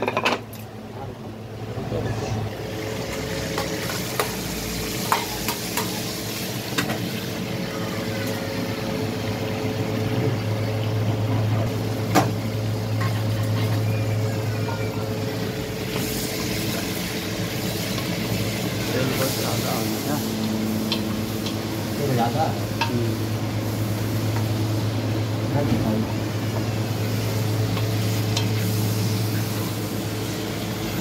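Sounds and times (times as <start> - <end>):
meat sizzling: 2.6 - 10.2, 11.7 - 31.0.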